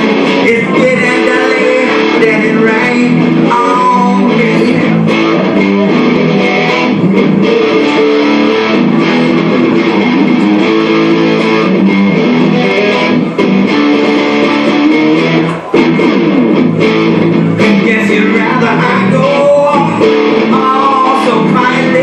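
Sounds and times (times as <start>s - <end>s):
instrumental rock music: 0.0s - 22.0s.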